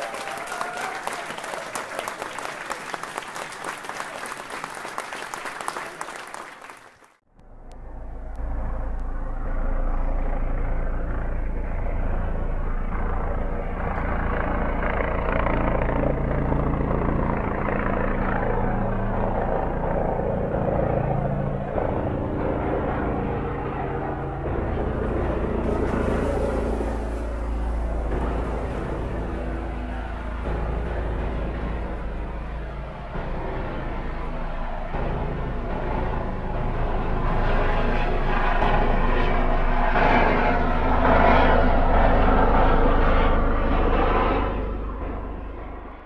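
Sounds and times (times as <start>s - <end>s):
drone rotors humming: 7.3s - 46.0s.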